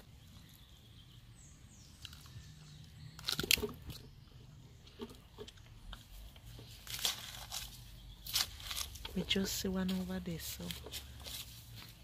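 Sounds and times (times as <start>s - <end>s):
soil crunching and scraping: 1.7s - 12.0s.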